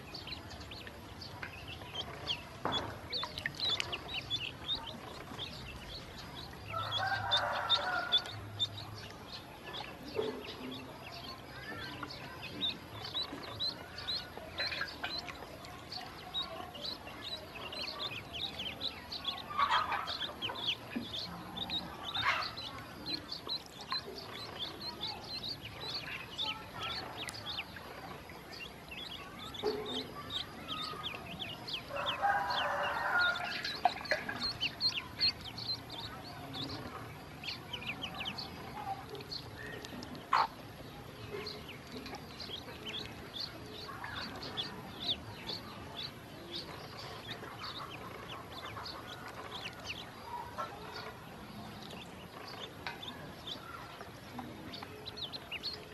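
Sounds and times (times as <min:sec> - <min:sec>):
ducklings peeping: 0:00.0 - 0:55.9.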